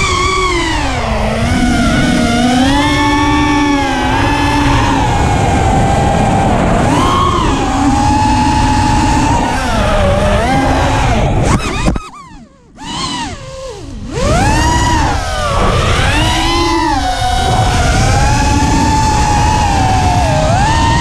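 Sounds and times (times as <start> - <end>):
quadcopter motors whining: 0.0 - 21.0
steady rushing noise: 0.0 - 21.0.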